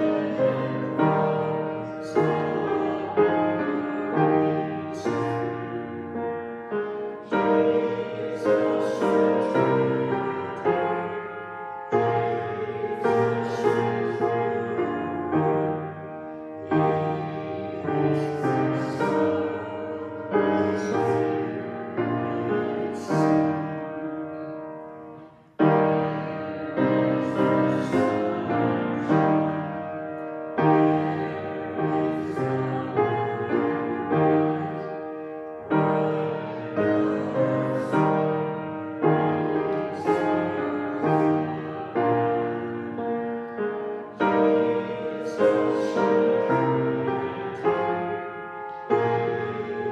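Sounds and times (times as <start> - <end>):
piano playing hymn chords: 0.0 - 49.9.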